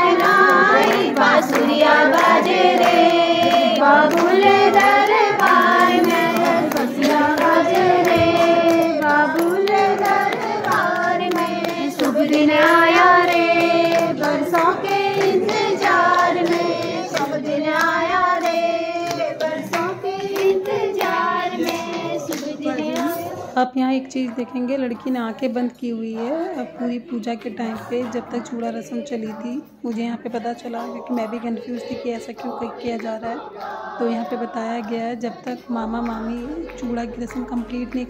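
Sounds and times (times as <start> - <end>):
women singing folk song: 0.0 - 38.0.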